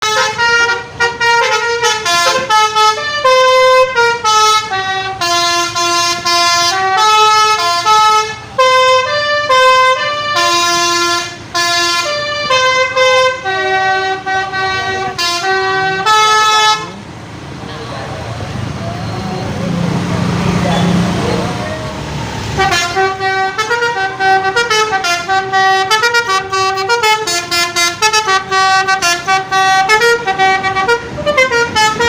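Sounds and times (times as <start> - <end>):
bus horn playing melody: 0.0 - 17.1, 20.9 - 32.0.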